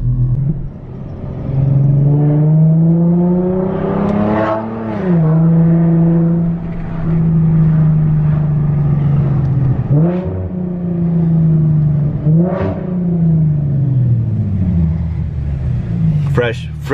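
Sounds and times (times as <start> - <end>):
car engine revving in cabin: 0.0 - 16.9.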